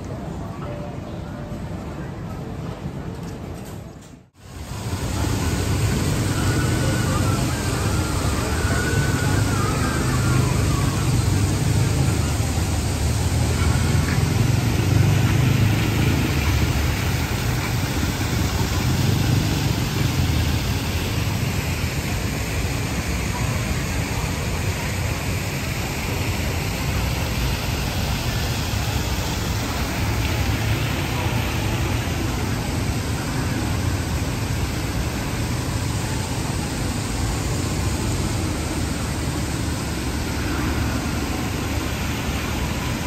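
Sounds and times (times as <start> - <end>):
general hubbub: 0.0 - 43.0
traffic running past: 4.4 - 43.0.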